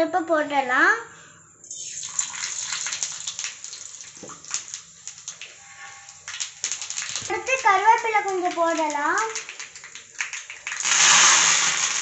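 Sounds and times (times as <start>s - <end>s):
seeds sizzling and popping in oil: 1.7s - 12.0s.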